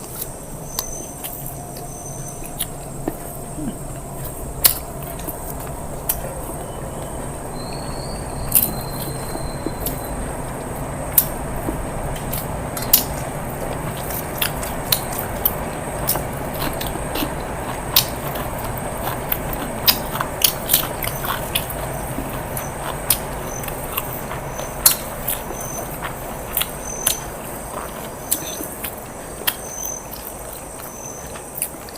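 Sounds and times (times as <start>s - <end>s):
background hum: 0.0s - 31.9s
person chewing food: 0.0s - 31.9s.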